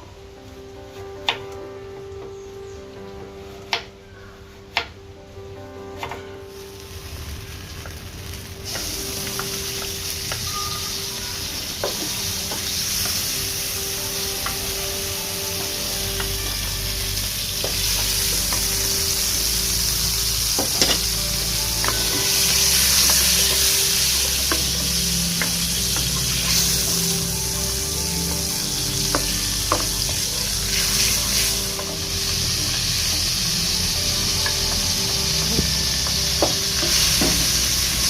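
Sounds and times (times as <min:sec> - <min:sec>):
food sizzling in hot oil: 0:06.5 - 0:38.0.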